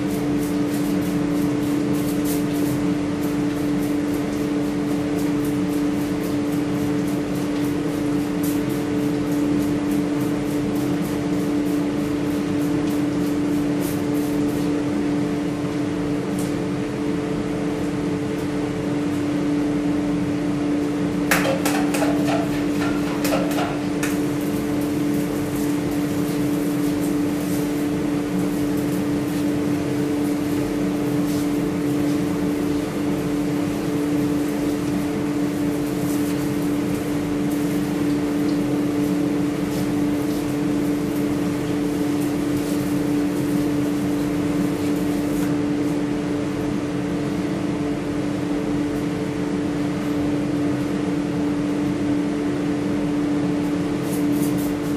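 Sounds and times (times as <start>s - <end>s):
electric fan hum: 0.0s - 54.9s.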